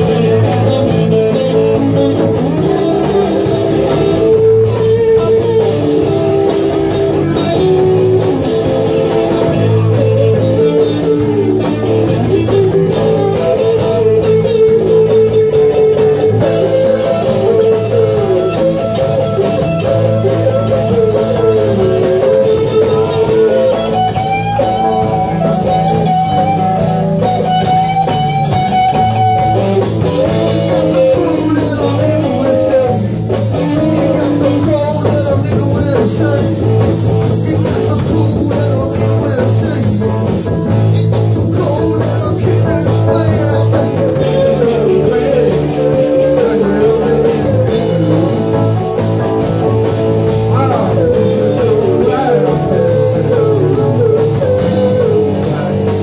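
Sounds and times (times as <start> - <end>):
electric guitar lead line bending: 0.0 - 56.0
live blues band playing: 0.0 - 56.0.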